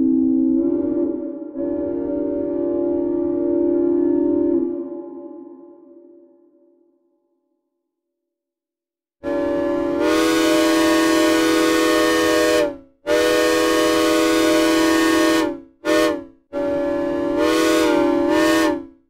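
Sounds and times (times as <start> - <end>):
steam locomotive whistle blasts: 0.0 - 6.2, 9.2 - 19.0.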